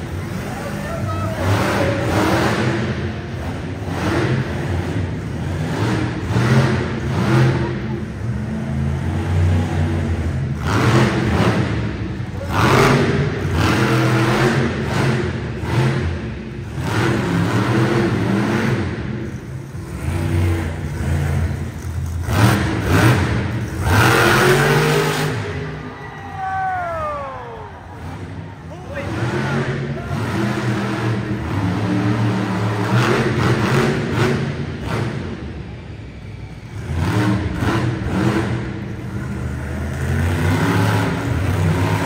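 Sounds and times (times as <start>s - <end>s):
truck engine revving: 0.0s - 26.0s, 26.9s - 42.0s.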